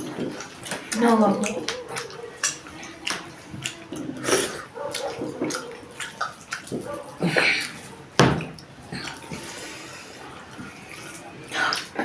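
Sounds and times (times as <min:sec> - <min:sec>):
mouth smacks: 0:00.0 - 0:09.8
food being mixed: 0:00.0 - 0:12.0
wet chewing: 0:00.0 - 0:12.0.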